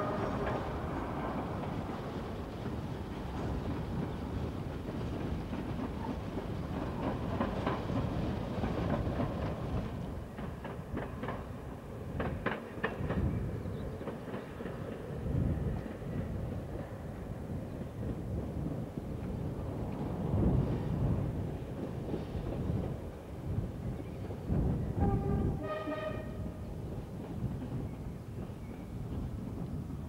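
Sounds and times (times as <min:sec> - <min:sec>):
train engine and wheels rumbling: 0:00.0 - 0:30.0.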